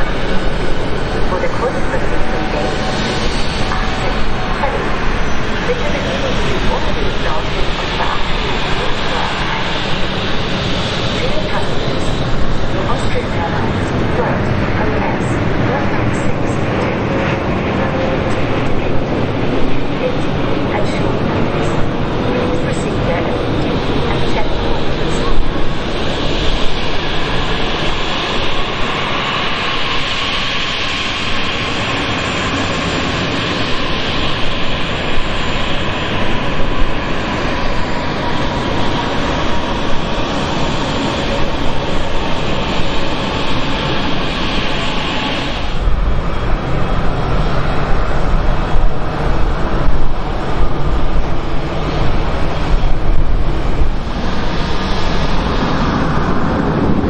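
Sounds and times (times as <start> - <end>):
distant jet engines rumbling: 0.0 - 57.0
jet engines whining: 0.0 - 57.0.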